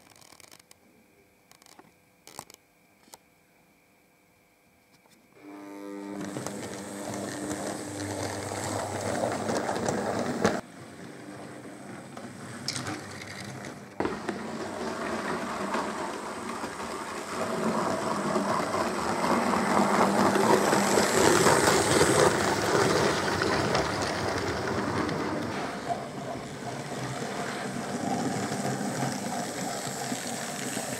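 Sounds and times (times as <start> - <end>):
model train motors whirring: 5.4 - 30.9.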